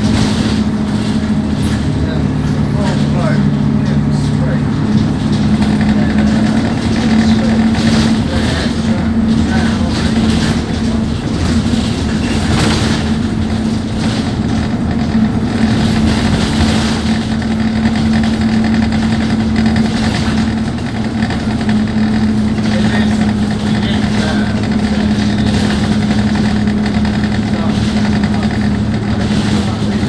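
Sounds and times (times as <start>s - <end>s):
bus diesel engine running: 0.0s - 30.0s.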